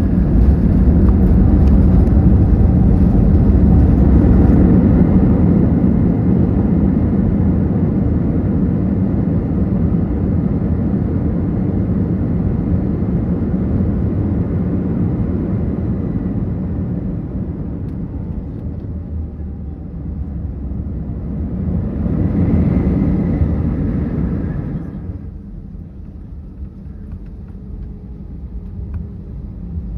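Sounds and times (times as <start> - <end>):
airplane engine rumble in cabin: 0.0 - 29.9.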